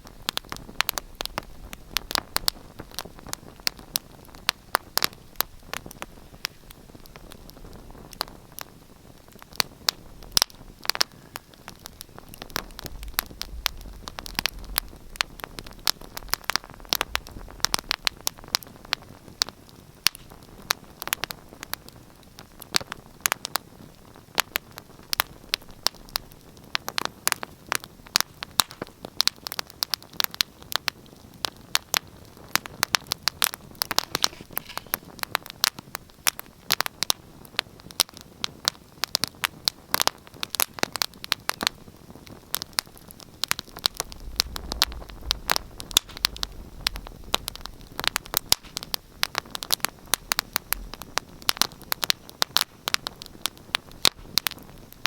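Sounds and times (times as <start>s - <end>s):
hiss of burning: 0.0s - 55.0s
wood fire crackling: 0.0s - 55.0s.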